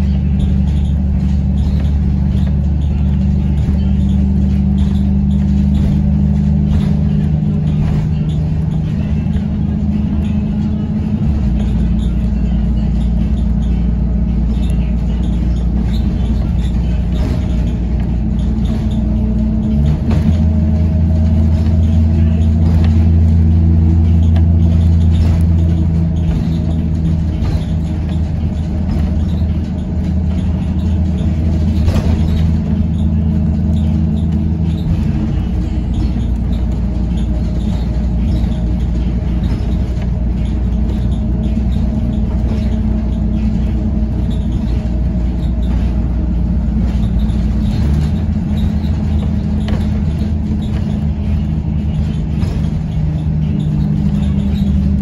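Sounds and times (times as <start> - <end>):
bus engine and road drone: 0.0 - 55.0.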